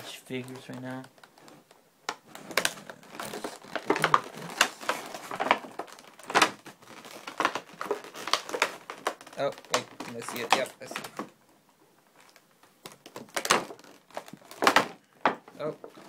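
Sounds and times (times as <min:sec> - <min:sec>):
plastic blister tray crinkling: 0:00.1 - 0:16.0.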